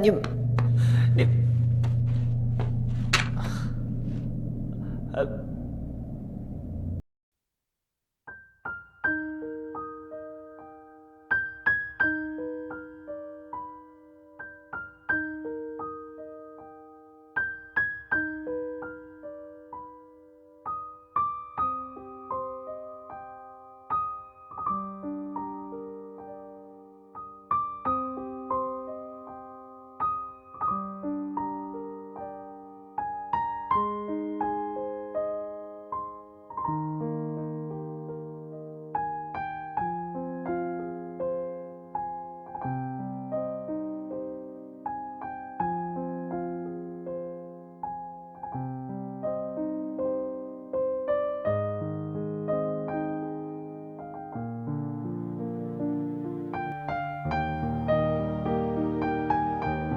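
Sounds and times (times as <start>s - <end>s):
solo piano music: 0.0s - 7.0s, 8.2s - 59.9s.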